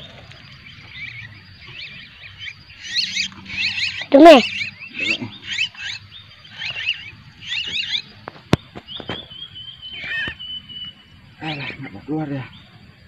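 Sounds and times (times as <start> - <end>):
nestlings squealing: 0.0 - 12.6.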